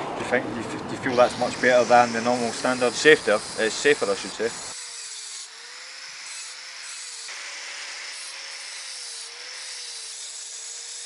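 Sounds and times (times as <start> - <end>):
angle grinder grinding stone: 0.9 - 11.0.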